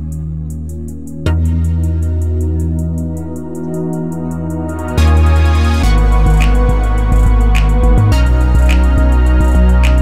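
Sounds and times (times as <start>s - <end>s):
electronic music with bass: 0.0s - 10.0s.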